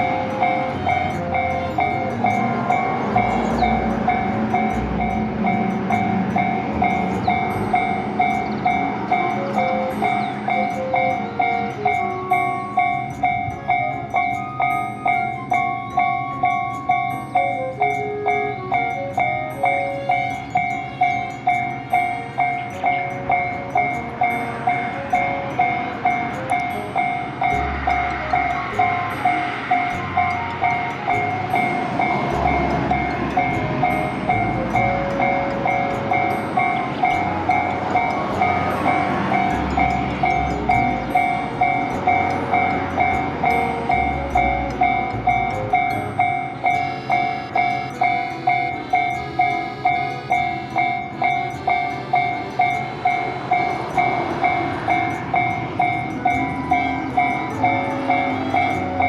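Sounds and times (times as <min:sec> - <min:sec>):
level crossing bell ringing: 0:00.0 - 0:59.0.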